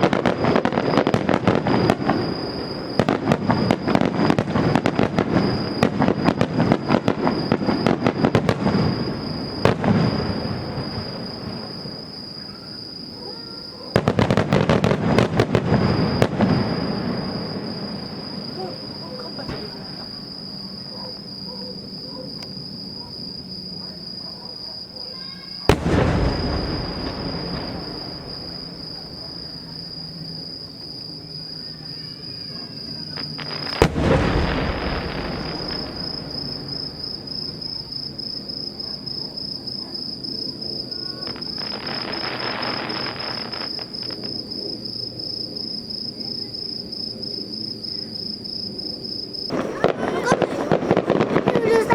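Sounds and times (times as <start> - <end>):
crickets trilling: 0.0 - 51.9
fireworks crackling and booming: 0.0 - 51.9.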